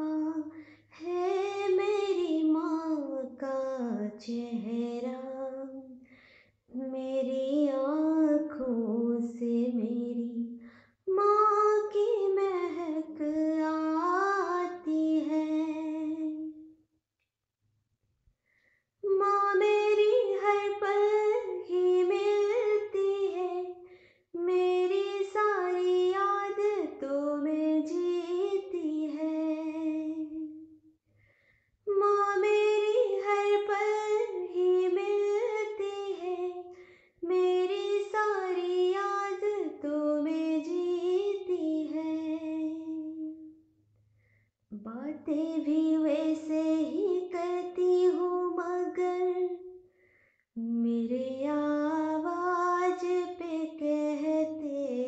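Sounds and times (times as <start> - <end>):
young female voice singing wordlessly: 0.0 - 6.0, 6.7 - 16.6, 19.0 - 23.8, 24.4 - 30.7, 31.9 - 43.4, 44.7 - 49.7, 50.6 - 55.0.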